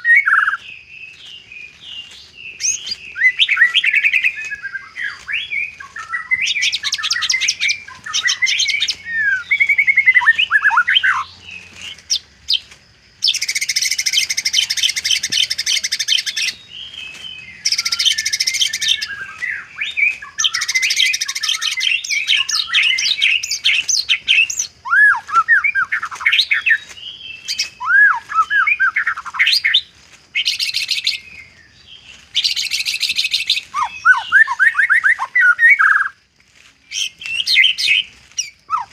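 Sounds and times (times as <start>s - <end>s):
songbird whistled phrases: 0.0s - 12.6s, 13.2s - 29.8s, 30.4s - 31.6s, 32.3s - 36.2s, 36.9s - 38.9s
buzzy rattling bird trills: 0.0s - 36.1s.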